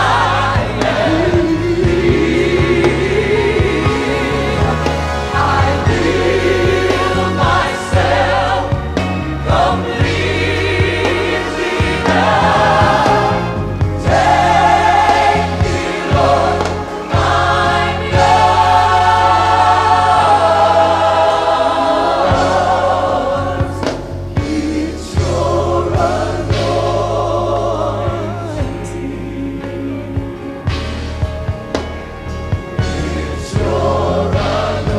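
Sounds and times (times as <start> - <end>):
gospel choir singing: 0.0 - 34.9
steady bass: 0.0 - 34.9.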